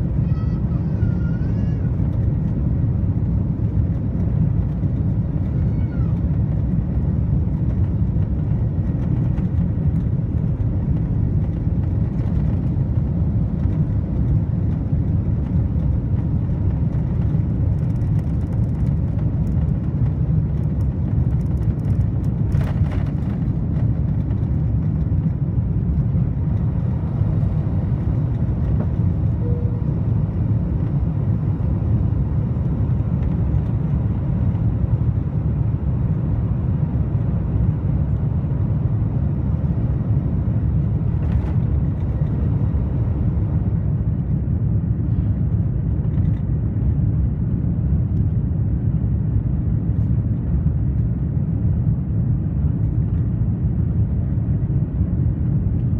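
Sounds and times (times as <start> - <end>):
jet engines low rumble: 0.0 - 55.9.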